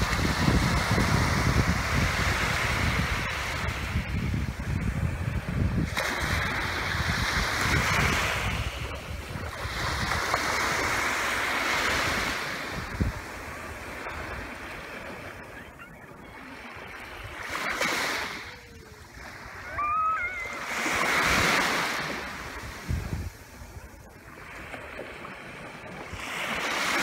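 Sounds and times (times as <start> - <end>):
small waves washing on beach: 0.0 - 27.0.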